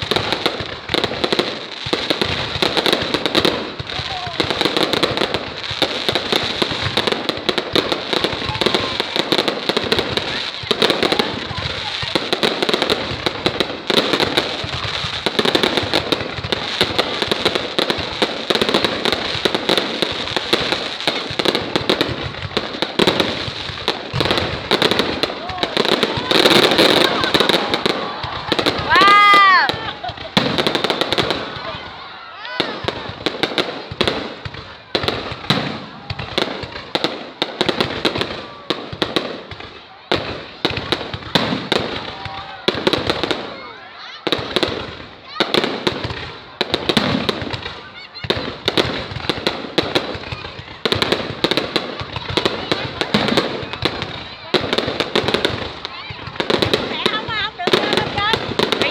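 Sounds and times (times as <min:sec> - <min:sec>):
fireworks crackling: 0:00.0 - 0:58.9.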